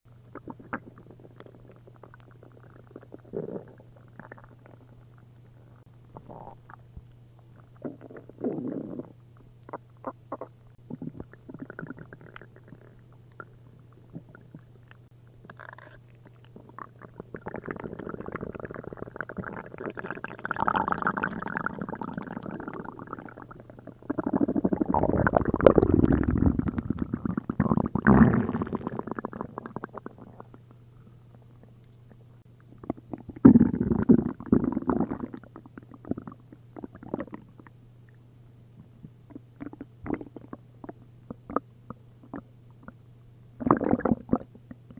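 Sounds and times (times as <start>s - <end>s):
stomach gurgling and rumbling: 0.2s - 30.7s, 31.4s - 38.2s, 38.8s - 43.0s, 43.6s - 44.9s.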